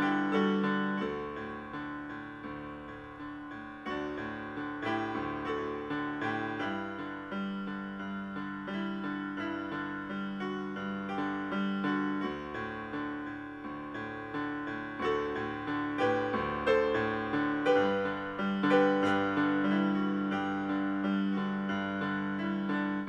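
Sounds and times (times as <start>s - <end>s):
solo piano music: 0.0s - 23.0s.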